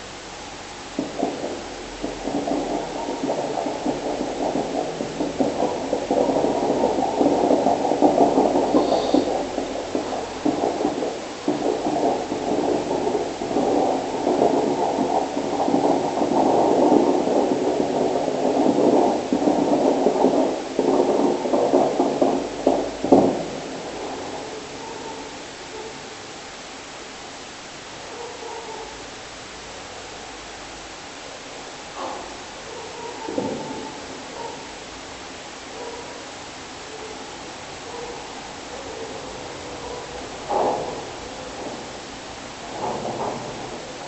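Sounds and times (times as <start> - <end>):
steady hiss: 0.0 - 44.0.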